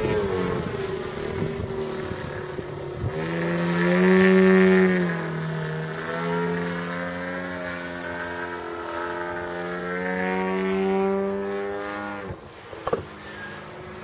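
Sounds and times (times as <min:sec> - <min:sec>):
model plane engine and propeller: 0:00.0 - 0:14.0.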